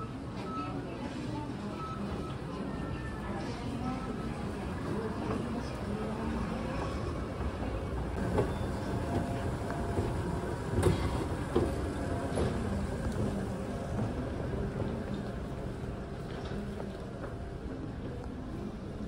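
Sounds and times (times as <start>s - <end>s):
moving walkway rumble and hum: 3.5s - 19.0s.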